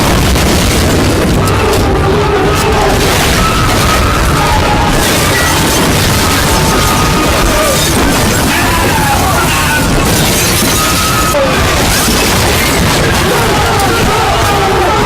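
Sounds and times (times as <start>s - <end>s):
crashing and shattering effects: 0.0s - 15.0s.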